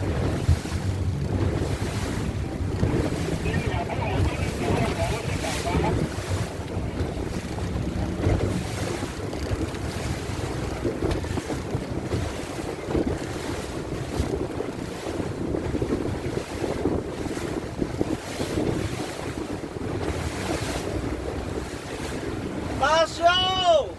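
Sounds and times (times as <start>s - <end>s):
wind buffeting microphone: 0.0s - 22.8s
boat engine low rumble: 0.0s - 23.9s
rushing water: 0.0s - 23.9s.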